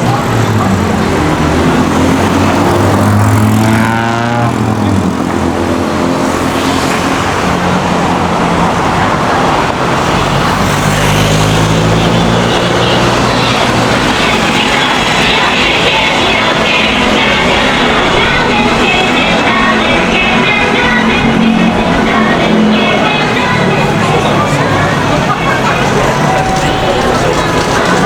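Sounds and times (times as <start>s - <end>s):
vehicle engine hum: 0.0s - 28.0s
vehicle passing: 0.0s - 28.0s.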